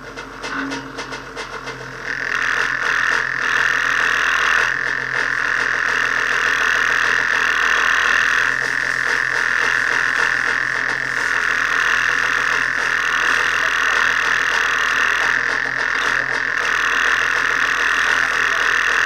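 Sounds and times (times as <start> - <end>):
loud buzzing hiss: 1.9 - 19.0.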